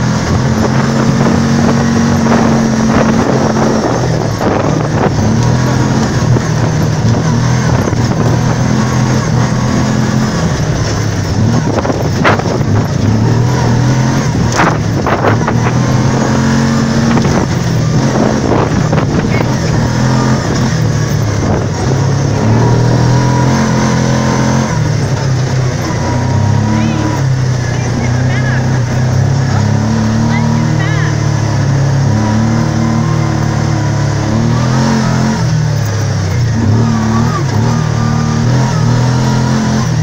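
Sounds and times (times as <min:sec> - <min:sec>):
atv engine running: 0:00.0 - 0:40.0
steady rushing noise: 0:00.0 - 0:40.0.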